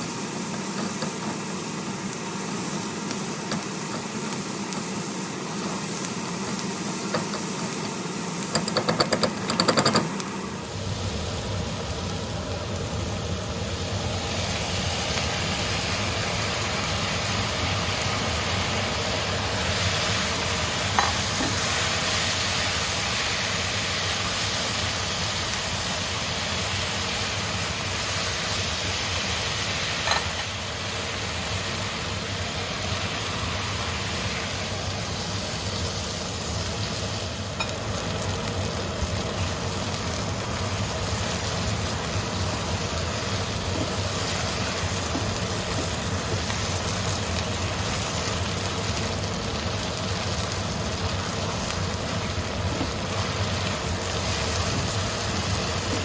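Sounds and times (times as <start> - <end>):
stir-fry sizzling in a pan: 0.0 - 56.0.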